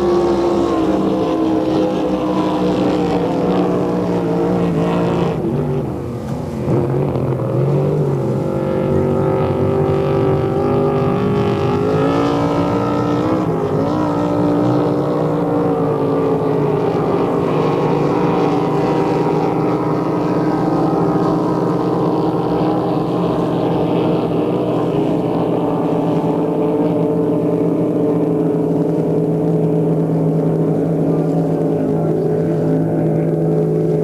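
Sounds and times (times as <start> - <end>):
racing motorboat engines: 0.0 - 34.0.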